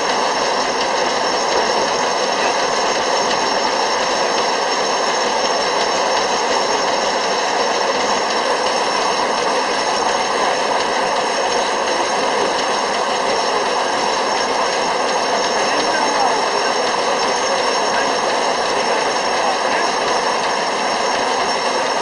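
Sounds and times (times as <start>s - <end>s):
high whining tones: 0.0s - 22.0s
sawmill machinery din: 0.0s - 22.0s.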